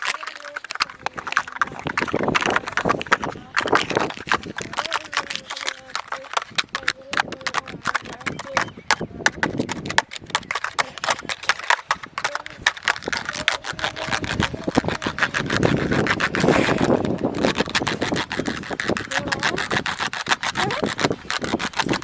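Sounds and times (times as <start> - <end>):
scratchy rubbing on plastic: 0.0 - 22.0.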